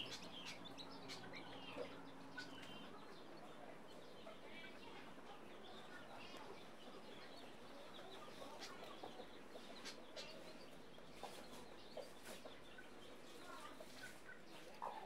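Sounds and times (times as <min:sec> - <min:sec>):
chicks' faint calls: 0:00.0 - 0:15.0
hen clucking softly: 0:00.0 - 0:15.0.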